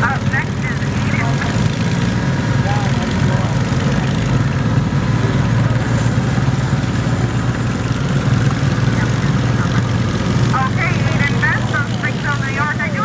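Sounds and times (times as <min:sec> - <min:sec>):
garden tractor engine running: 0:00.0 - 0:13.0.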